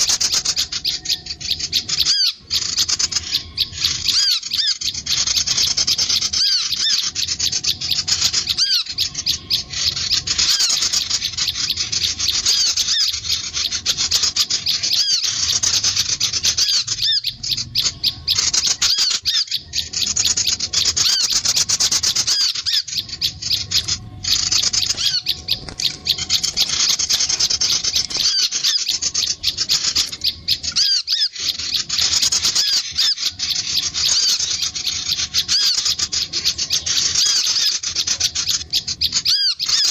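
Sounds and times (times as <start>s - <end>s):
small songbird chattering: 0.0s - 39.9s.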